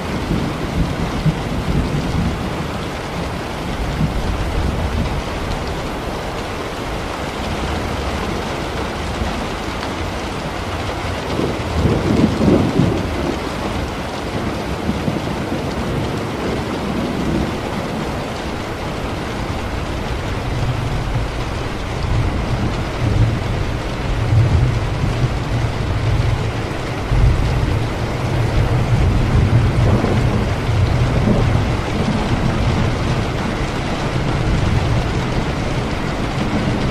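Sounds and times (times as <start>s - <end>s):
steady rain: 0.0s - 36.9s
thunder rumbling: 0.0s - 36.9s.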